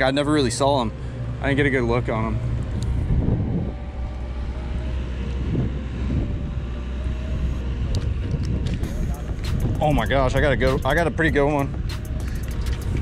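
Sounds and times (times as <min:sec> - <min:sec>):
wind buffeting microphone: 0:01.1 - 0:13.0.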